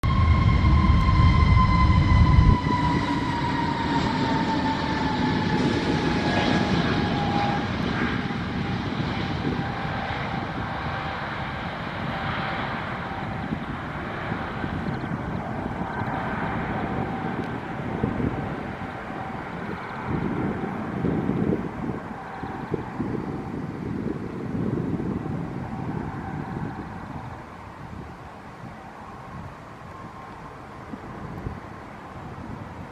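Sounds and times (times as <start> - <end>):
heavy low rumble: 0.0 - 27.5
jet engines whining: 0.0 - 32.9.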